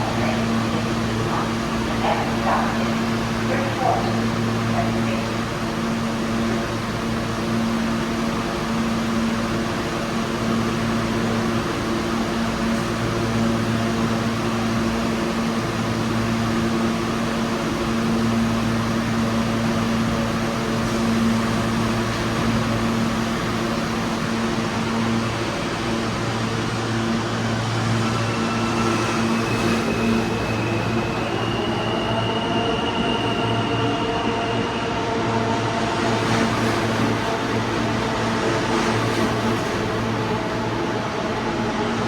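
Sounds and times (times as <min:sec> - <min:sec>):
subway platform mechanical hum: 0:00.0 - 0:42.0.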